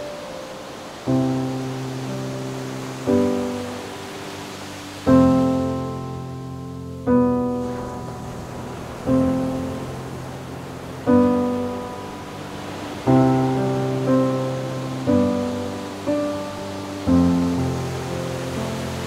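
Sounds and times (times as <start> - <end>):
ocean waves: 0.0 - 19.0
slow solo piano music: 0.0 - 19.0.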